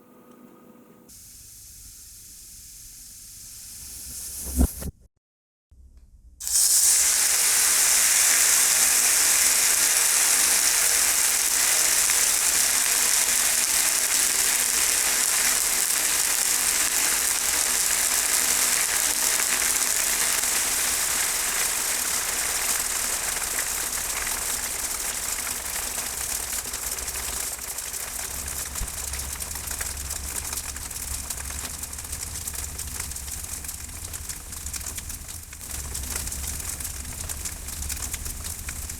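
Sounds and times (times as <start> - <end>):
hot metal sizzling on noodles: 1.1 - 4.9, 6.4 - 38.9.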